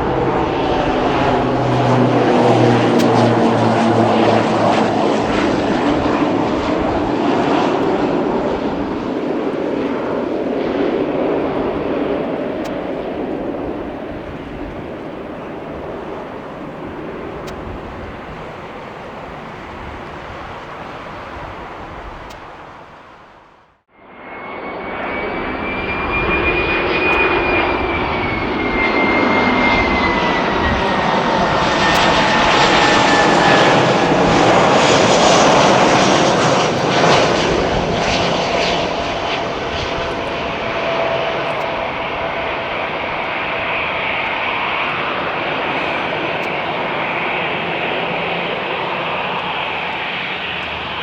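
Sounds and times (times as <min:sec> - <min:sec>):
jet airliner passing by: 0:00.0 - 0:51.0.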